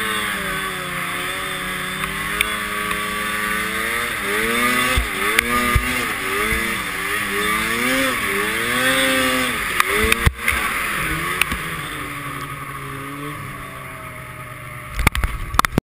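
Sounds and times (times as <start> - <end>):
snowmobile engine revving: 0.0 - 15.7.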